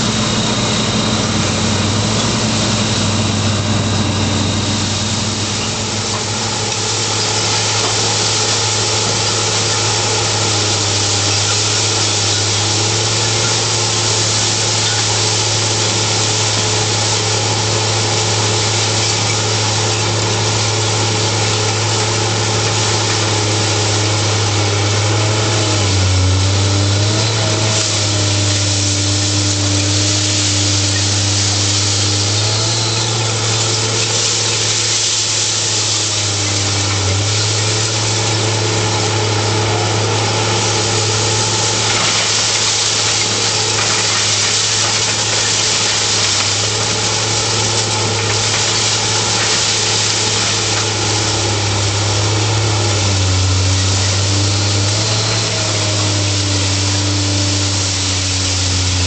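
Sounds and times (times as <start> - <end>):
conveyor and machinery noise: 0.0 - 59.0
heavy diesel engine running: 0.0 - 59.0.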